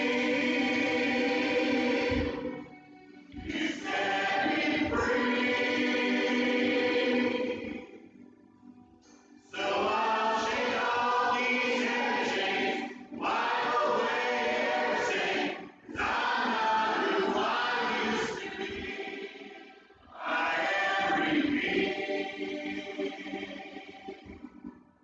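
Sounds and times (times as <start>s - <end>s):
church choir singing gospel: 0.0s - 25.0s.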